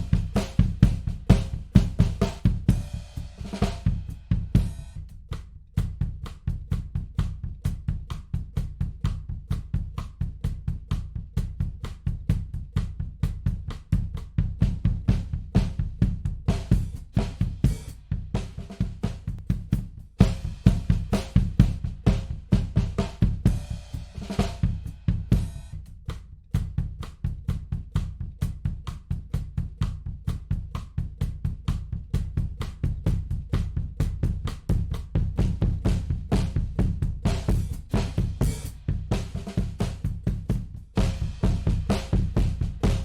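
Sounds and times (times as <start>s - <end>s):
drum kit groove: 0.0s - 43.0s.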